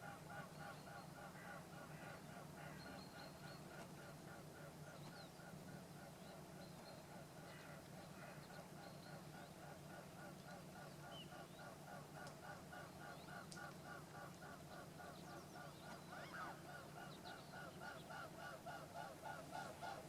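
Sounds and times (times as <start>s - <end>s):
rapid repeated animal calls: 0.0s - 20.0s.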